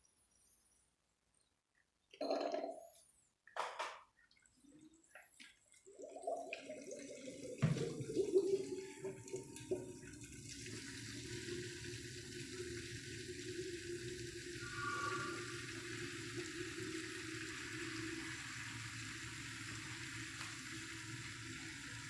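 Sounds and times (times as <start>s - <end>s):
water gurgling through cooling loop: 4.3s - 22.0s.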